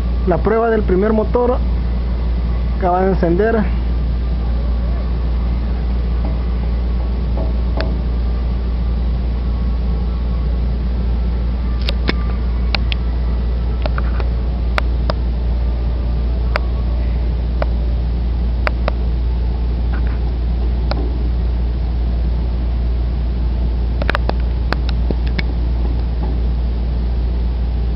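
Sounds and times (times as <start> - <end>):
large engine humming: 0.0 - 27.9.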